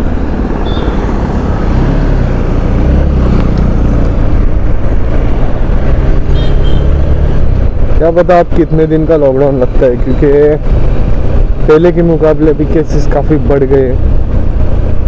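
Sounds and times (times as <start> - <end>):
passing traffic: 0.0 - 15.0
road noise: 0.0 - 15.0.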